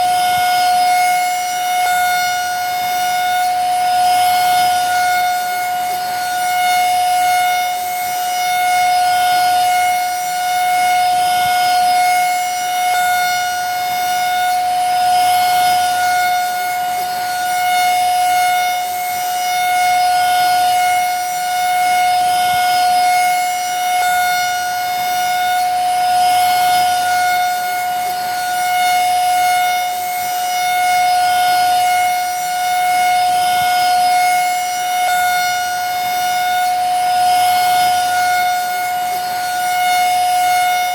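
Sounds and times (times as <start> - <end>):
vacuum cleaner motor whining: 0.0 - 40.9.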